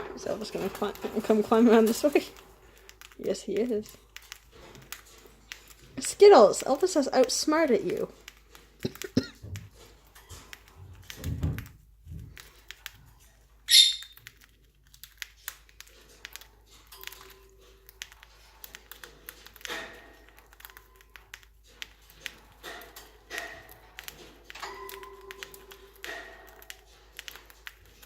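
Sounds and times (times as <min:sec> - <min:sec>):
birds pecking seed: 0:00.0 - 0:28.0.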